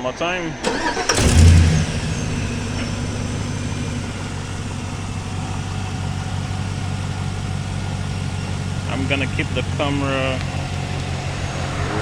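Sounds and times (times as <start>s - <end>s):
truck engine idling: 0.6s - 12.0s.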